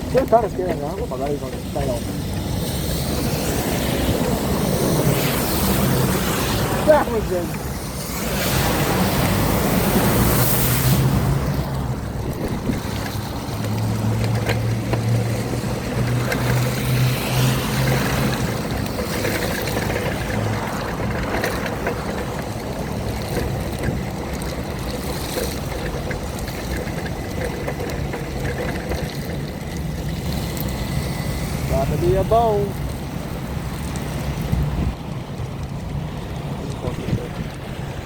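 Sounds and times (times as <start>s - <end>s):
tyres on wet road: 0.0s - 38.0s.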